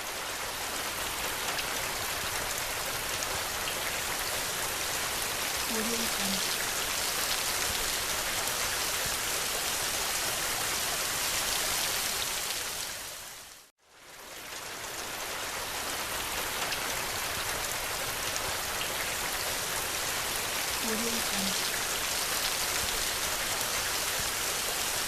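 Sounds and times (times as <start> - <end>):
heavy rain hiss: 0.0 - 13.7, 14.7 - 25.0.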